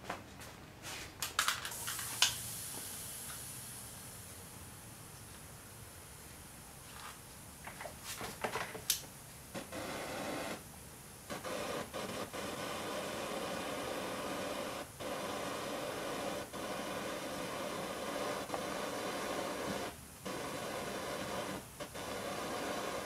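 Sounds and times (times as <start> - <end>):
butane torch hissing: 1.7 - 23.0.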